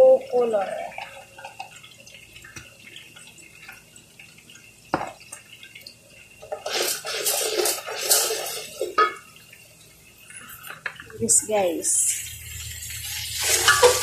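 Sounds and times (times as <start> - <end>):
tap water running and splashing: 0.0 - 14.0.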